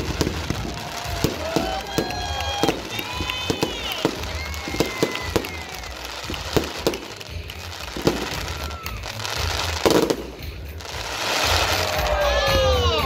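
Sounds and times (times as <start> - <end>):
crackling sparks: 0.0 - 12.3
fireworks bangs and pops: 0.0 - 13.0.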